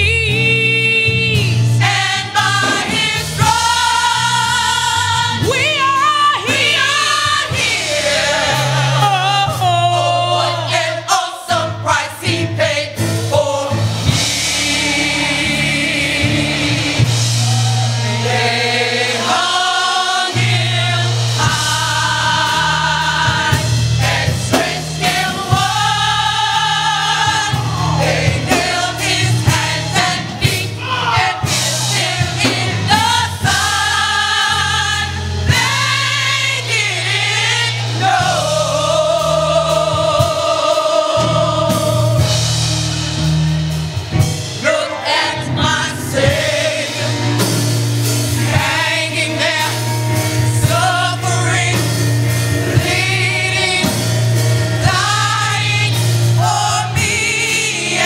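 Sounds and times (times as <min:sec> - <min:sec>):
accompaniment with held bass notes: 0:00.0 - 0:58.0
gospel choir singing: 0:00.0 - 0:58.0.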